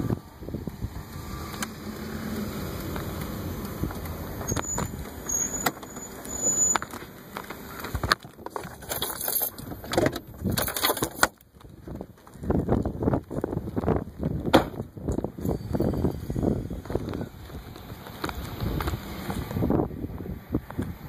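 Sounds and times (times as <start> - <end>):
wind noise: 0.0 - 7.0, 7.7 - 21.0.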